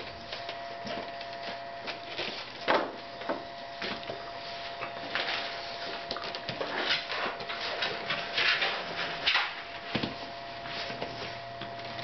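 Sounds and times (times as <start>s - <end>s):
puppies play-fighting and scuffling: 0.0s - 12.0s.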